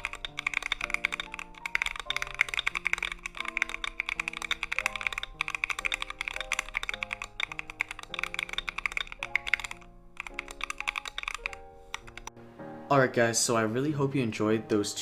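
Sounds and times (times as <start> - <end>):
mechanical keyboard typing: 0.0 - 12.4
background music: 0.0 - 15.0.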